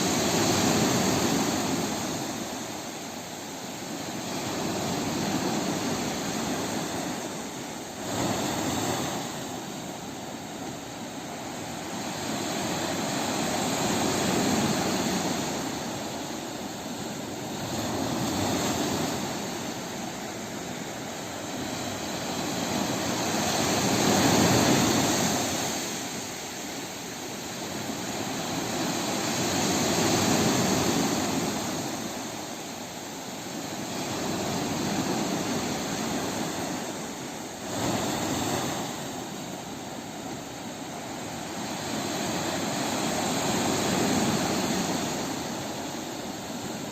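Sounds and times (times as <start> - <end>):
sea waves surf roar: 0.0 - 46.9.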